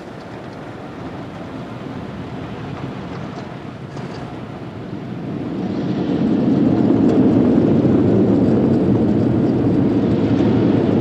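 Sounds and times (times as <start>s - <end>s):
car wash drying blowers: 0.0s - 11.0s.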